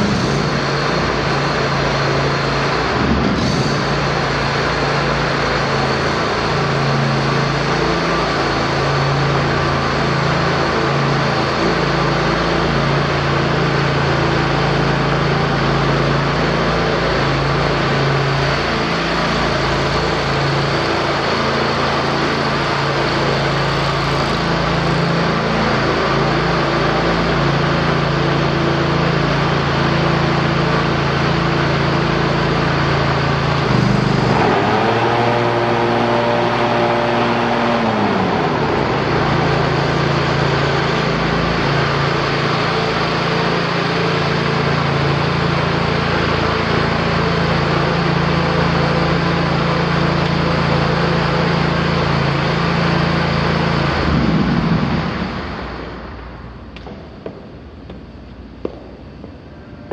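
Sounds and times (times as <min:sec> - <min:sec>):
mower engine idling and revving: 0:00.0 - 0:59.9.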